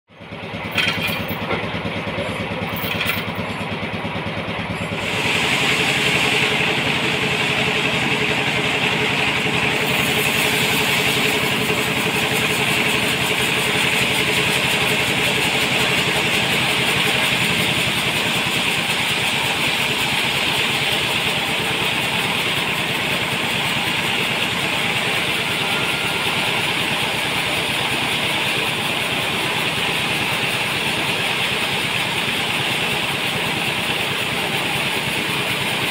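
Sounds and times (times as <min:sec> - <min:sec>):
sawmill machinery engine drone: 0:00.1 - 0:35.9.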